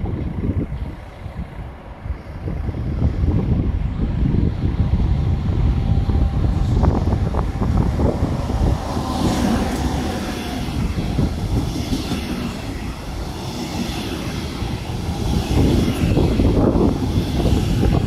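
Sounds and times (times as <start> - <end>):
train running: 0.0 - 18.0
wind on microphone: 0.0 - 18.0.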